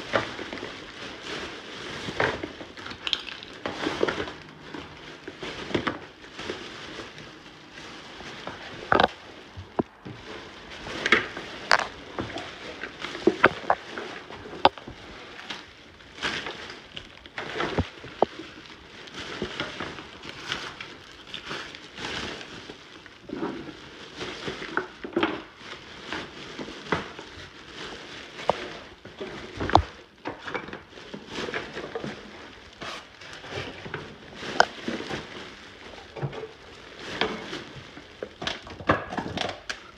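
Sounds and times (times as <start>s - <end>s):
trash crinkling and rustling: 0.0s - 39.9s.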